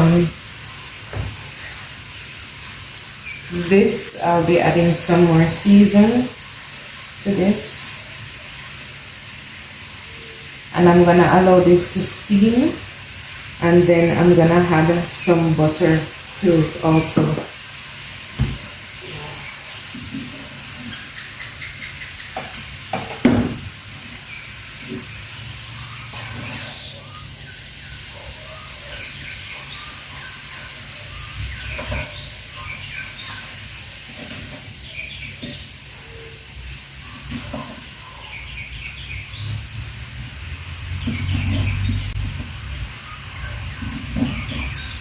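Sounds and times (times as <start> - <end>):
vegetables sizzling in a pot: 0.0 - 45.0.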